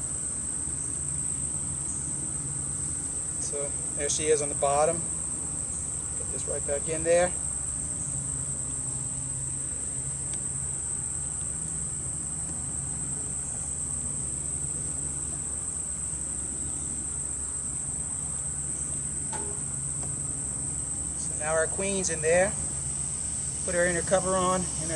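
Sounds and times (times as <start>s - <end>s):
high-pitched insect chorus: 0.0s - 24.9s
low steady hum: 0.0s - 24.9s.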